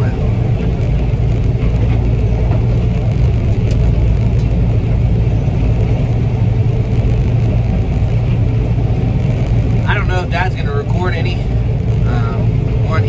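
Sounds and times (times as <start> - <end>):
combine harvester droning: 0.0 - 13.0.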